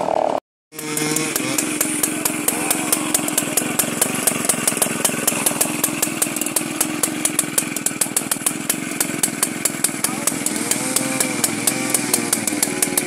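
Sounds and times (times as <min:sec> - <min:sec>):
chainsaw engine idling: 0:00.8 - 0:13.0.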